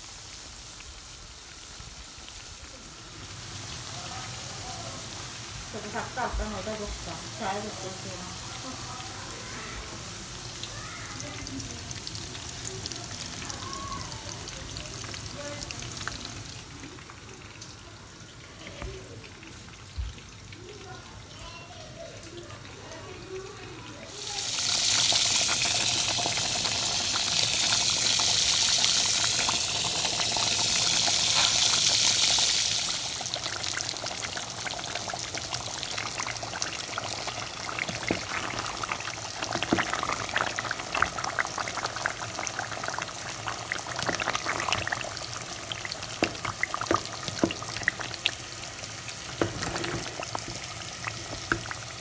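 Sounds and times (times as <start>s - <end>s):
fritters frying in hot oil: 0.0s - 52.0s.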